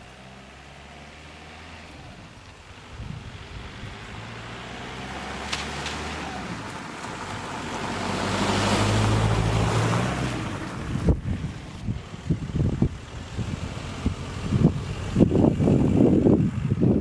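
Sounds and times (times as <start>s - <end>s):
diesel car engine accelerating: 0.0s - 17.0s
tyre and wind noise: 1.6s - 17.0s.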